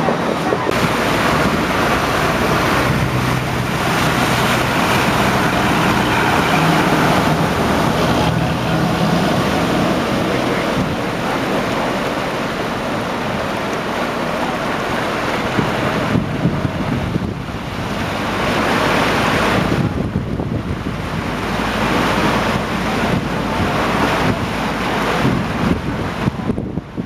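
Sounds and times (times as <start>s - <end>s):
vehicle engine humming: 0.0s - 26.7s
wind noise on microphone: 0.0s - 27.0s.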